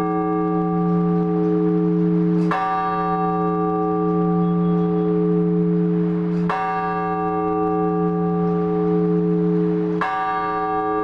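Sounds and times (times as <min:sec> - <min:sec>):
large church bell ringing: 0:00.0 - 0:11.0.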